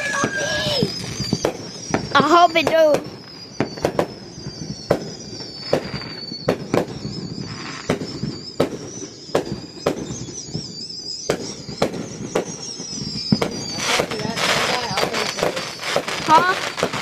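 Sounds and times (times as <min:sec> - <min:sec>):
firework bangs: 0:00.0 - 0:17.0
high wavering whistle: 0:00.0 - 0:17.0.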